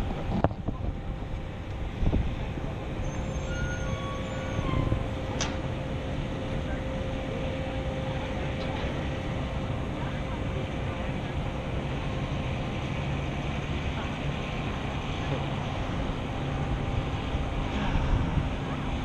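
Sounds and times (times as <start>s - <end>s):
aerial lift rumble: 0.0s - 19.0s.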